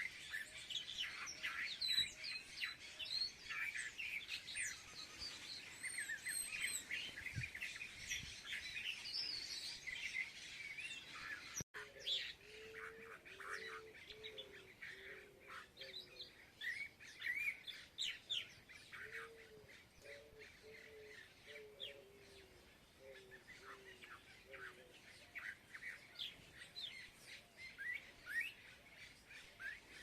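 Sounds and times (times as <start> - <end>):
birds chirping and twittering: 0.0 - 30.0.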